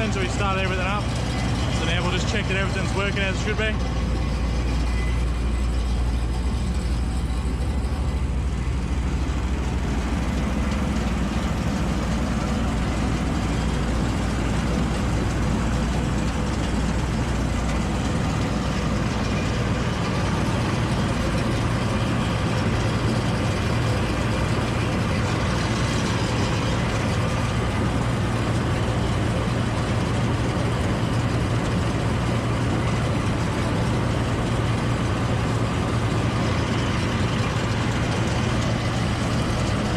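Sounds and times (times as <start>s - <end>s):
combine mechanical clatter: 0.0s - 39.9s
low diesel drone: 0.0s - 39.9s.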